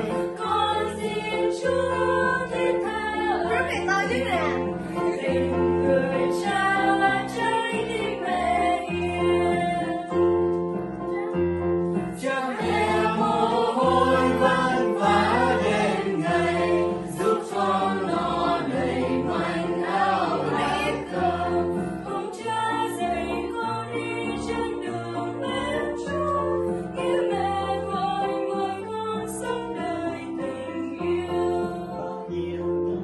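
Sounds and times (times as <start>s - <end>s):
mixed choir singing a hymn: 0.0s - 10.4s, 12.0s - 32.6s.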